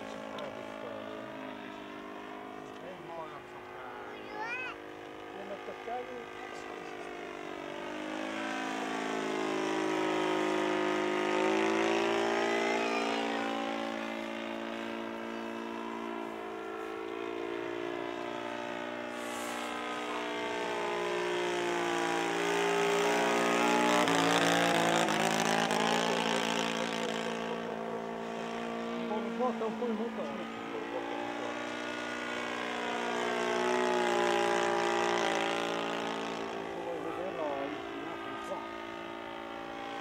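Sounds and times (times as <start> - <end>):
model plane engine and propeller: 0.0 - 40.0.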